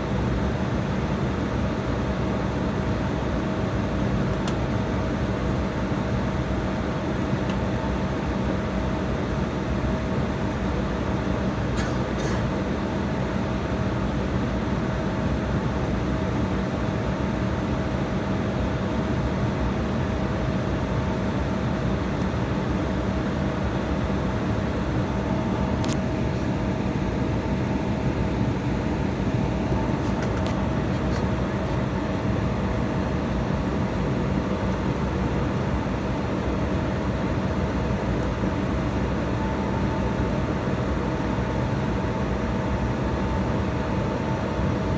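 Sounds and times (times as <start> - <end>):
jet engine drone in cabin: 0.0 - 44.9.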